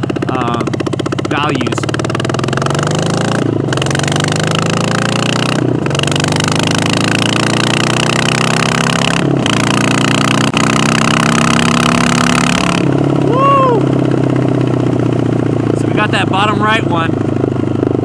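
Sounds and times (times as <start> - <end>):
motorcycle accelerating hard: 0.0 - 18.0.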